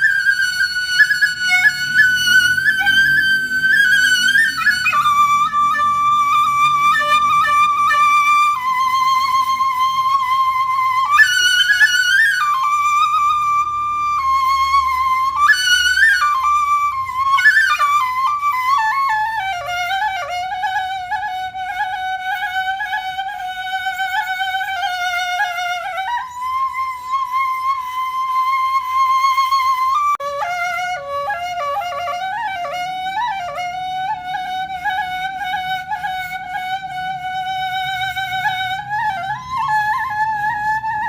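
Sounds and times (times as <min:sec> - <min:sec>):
solo flute melody: 0:00.0 - 0:41.0.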